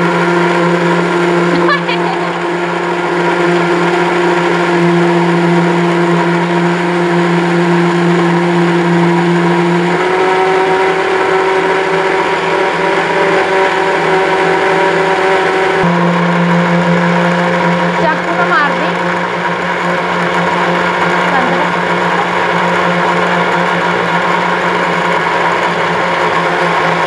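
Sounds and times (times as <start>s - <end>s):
mixer grinder motor whining: 0.0s - 27.0s.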